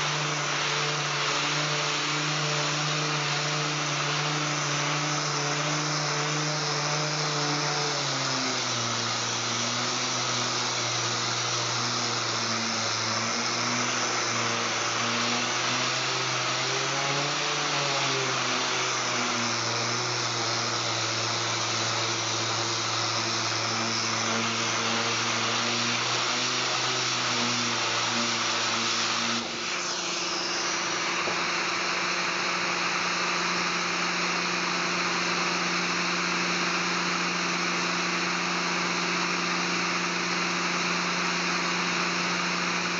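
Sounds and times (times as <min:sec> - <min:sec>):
dust hose drawing air: 0:00.0 - 0:39.0
steady machine hum: 0:00.0 - 0:42.0
air sander running: 0:00.0 - 0:42.9.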